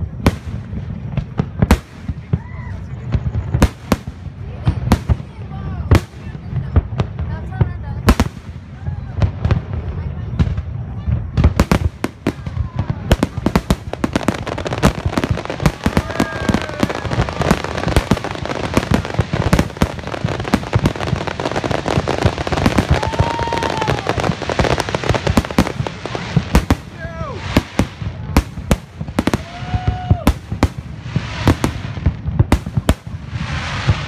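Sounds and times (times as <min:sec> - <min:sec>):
fireworks bursting: 0:00.0 - 0:34.0
fireworks crackling: 0:00.0 - 0:34.0.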